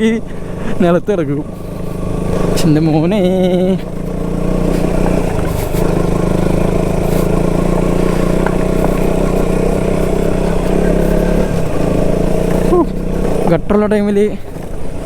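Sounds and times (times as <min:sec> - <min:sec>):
light clatters from rough road: 0:00.0 - 0:15.0
motorcycle engine running: 0:00.0 - 0:15.0.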